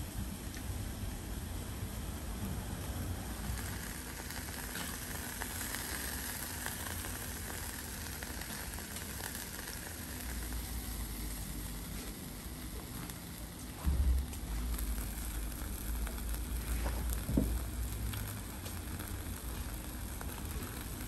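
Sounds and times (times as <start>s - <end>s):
fish sizzling on hot stone: 0.2s - 21.0s.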